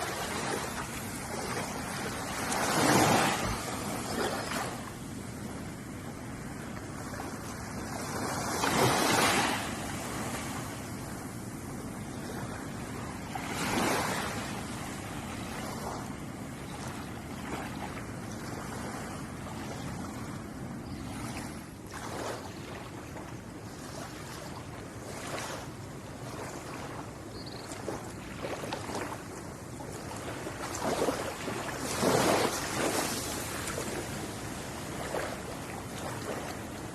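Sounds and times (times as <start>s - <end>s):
ocean waves washing ashore: 0.0s - 36.9s.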